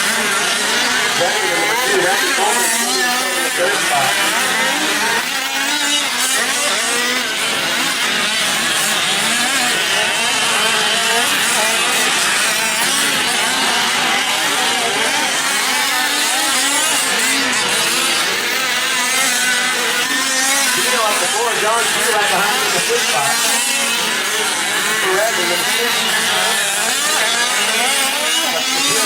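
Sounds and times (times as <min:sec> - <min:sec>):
small two-stroke engines revving: 0:00.0 - 0:29.0.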